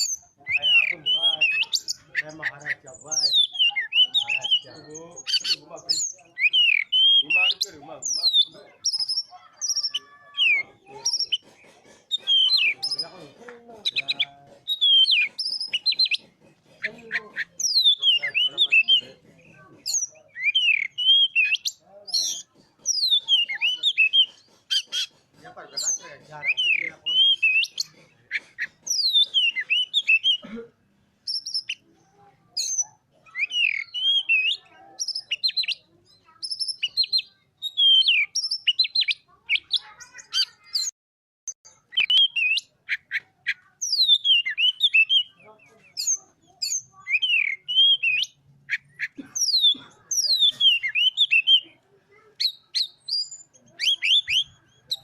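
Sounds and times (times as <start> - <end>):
songbird whistling and clicking: 5.2 - 13.2, 13.8 - 19.0, 19.8 - 30.4, 31.2 - 31.8, 32.6 - 40.9, 41.6 - 51.7, 52.3 - 55.0.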